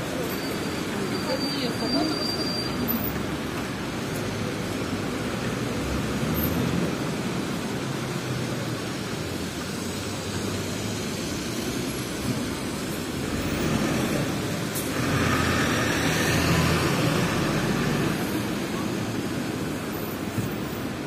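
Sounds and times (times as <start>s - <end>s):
traffic on wet road: 0.0s - 21.0s.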